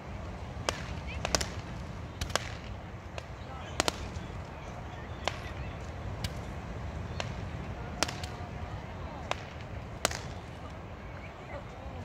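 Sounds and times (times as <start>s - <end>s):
fireworks cracking: 0.0s - 10.8s
low rumble of surf: 0.0s - 12.0s.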